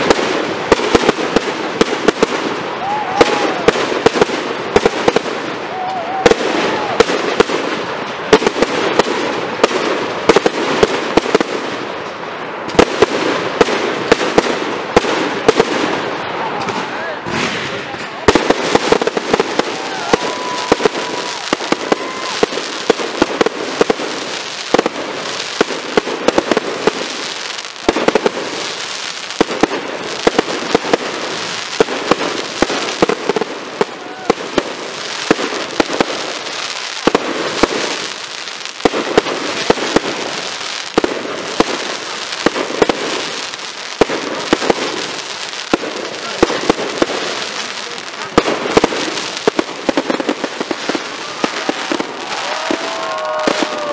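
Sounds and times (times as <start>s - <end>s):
fireworks bursting with bangs: 0.0s - 53.9s
fireworks crackling hiss: 0.0s - 53.9s.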